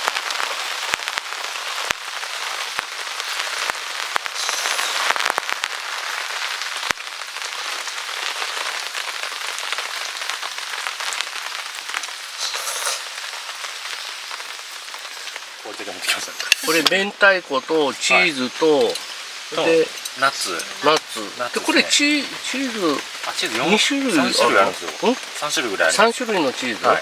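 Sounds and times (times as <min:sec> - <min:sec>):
heavy rain pouring: 0:00.0 - 0:27.0
raindrops tapping nearby: 0:00.0 - 0:27.0.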